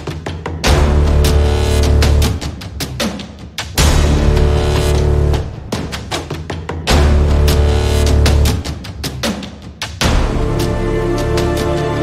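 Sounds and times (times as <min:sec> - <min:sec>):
drum strokes: 0:00.0 - 0:12.0.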